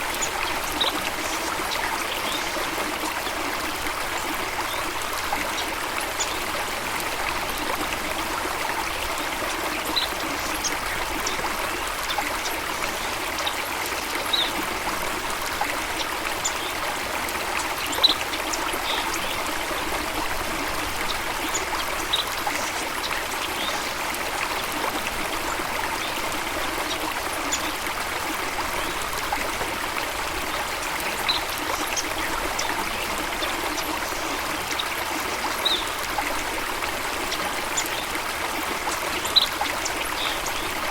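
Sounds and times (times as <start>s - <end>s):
stream rushing: 0.0s - 40.9s.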